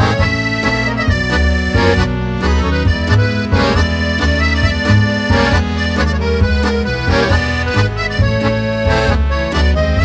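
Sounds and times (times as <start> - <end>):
accordion music with bass: 0.0 - 10.0.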